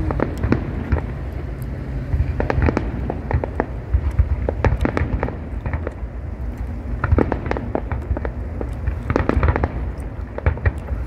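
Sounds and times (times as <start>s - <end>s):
firework cracks and bangs: 0.0s - 11.0s
low rumble: 0.0s - 11.0s.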